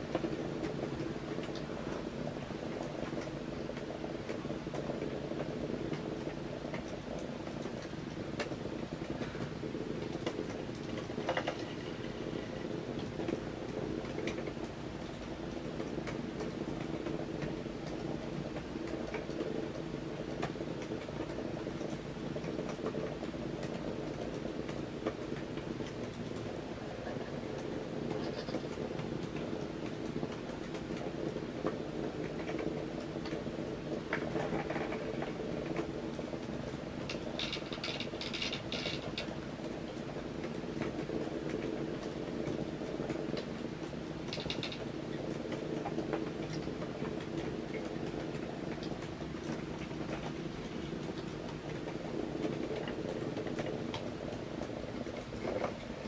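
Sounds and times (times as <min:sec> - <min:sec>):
clicks and scratchy bursts: 0:02.8 - 0:13.4, 0:14.0 - 0:56.0.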